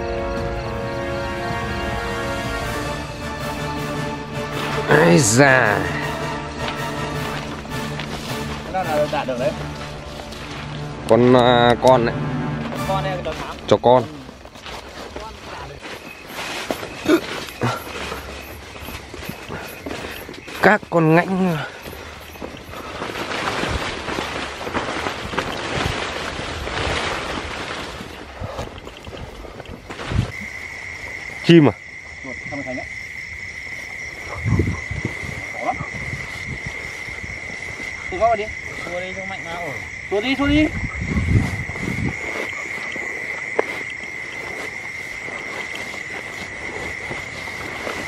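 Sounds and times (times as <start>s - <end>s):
crickets trilling: 0.0s - 48.0s
leafy plants rustling: 0.0s - 48.0s
leaves and stalks crackling: 0.0s - 48.0s.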